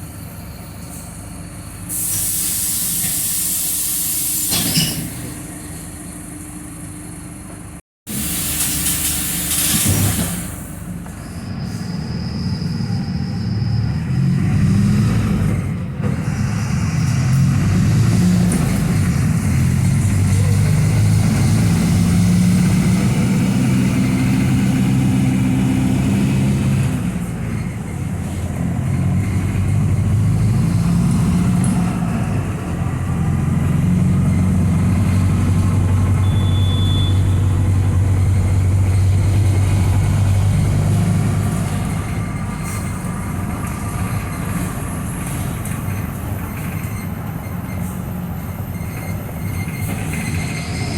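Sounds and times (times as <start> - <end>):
bus diesel engine under load: 0.0 - 50.9.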